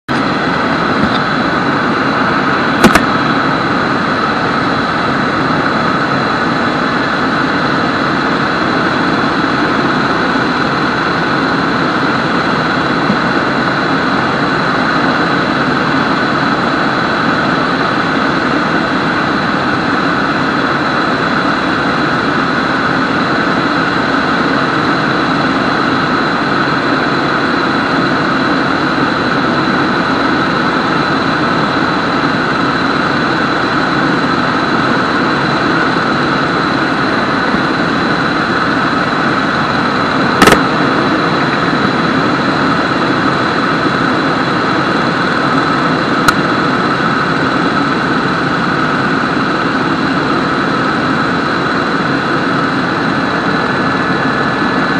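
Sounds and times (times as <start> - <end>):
high whine: 0.0 - 54.9
helicopter engine and rotor din: 0.1 - 54.9.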